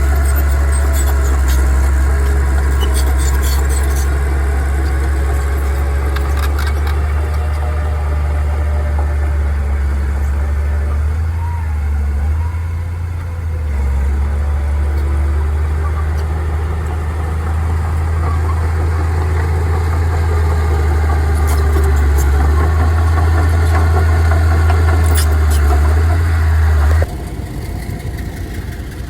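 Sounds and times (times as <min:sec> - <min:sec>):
heavy engine running: 0:00.0 - 0:29.0.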